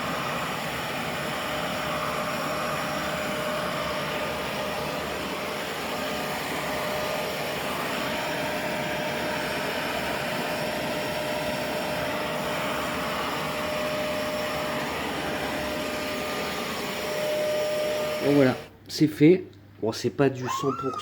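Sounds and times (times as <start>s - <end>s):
vacuum cleaner blowing air: 0.0s - 18.7s.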